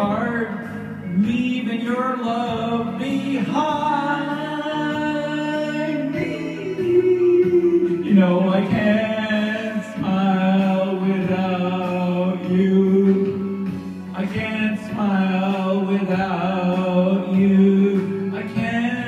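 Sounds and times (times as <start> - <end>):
man singing karaoke: 0.0 - 19.0.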